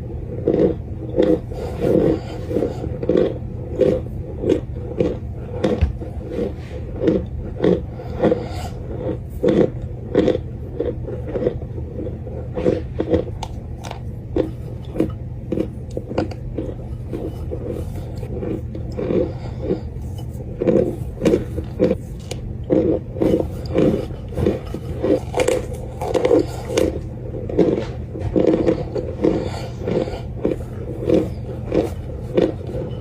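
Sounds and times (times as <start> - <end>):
crunchy chewing: 0.0 - 33.0
steady low hum: 0.0 - 33.0.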